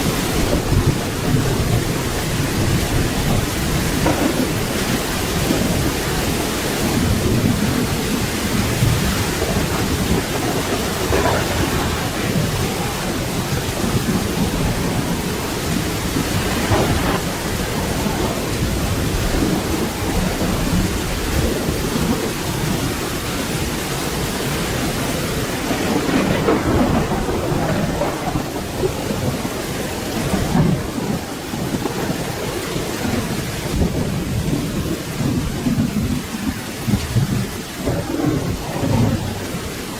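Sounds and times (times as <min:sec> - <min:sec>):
low rolling thunder: 0:00.0 - 0:39.9
steady rain falling: 0:00.0 - 0:39.9.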